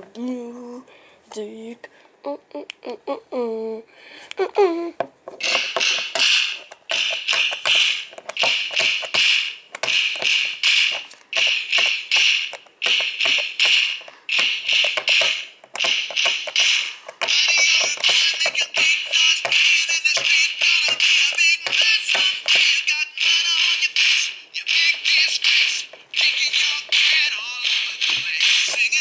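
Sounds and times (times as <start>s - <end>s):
thin high-pitched music with pulsing beat: 5.4s - 29.0s.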